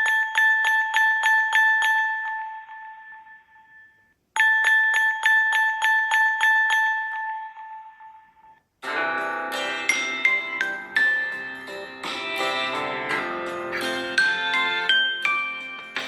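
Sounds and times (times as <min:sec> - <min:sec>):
bell-like ringtone chime: 0:00.0 - 0:16.0.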